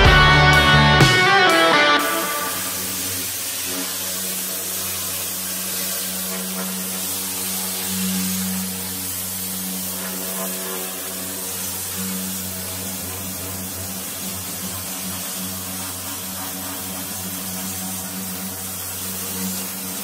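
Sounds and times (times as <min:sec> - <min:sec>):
pressure washer motor hum: 0:00.0 - 0:20.0
water spray hissing: 0:00.0 - 0:20.0.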